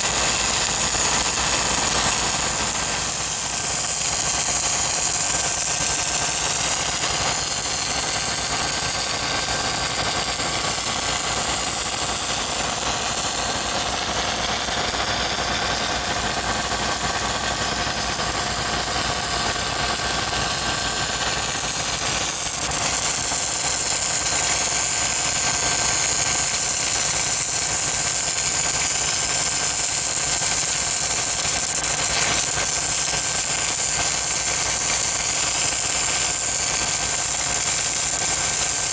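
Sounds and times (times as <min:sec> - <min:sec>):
welding machine engine running: 0:00.0 - 0:38.9.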